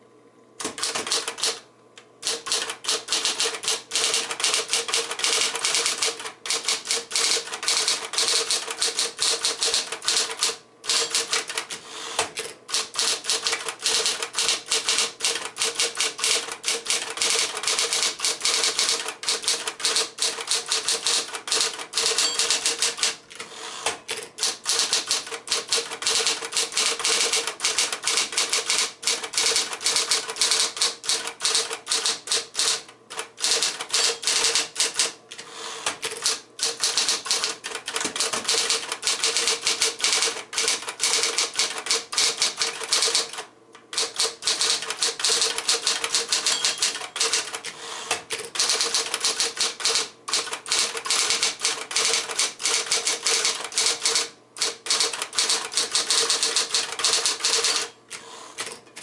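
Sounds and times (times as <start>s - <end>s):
typewriter keys striking: 0.6s - 1.6s, 2.2s - 23.2s, 23.9s - 35.2s, 35.8s - 58.0s
typewriter motor humming: 0.6s - 1.6s, 2.2s - 59.0s.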